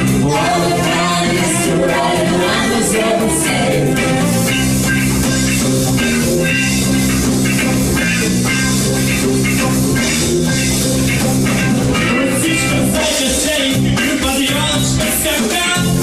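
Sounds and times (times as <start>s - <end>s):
bass guitar line: 0.0s - 16.0s
drum kit beat: 0.0s - 16.0s
guitar: 0.0s - 16.0s.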